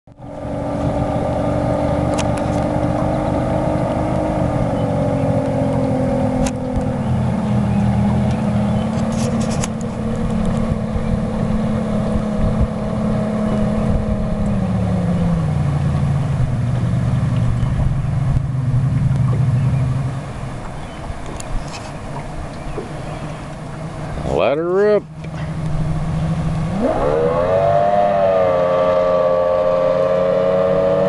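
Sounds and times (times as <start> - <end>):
motorboat engine running: 0.0 - 31.0.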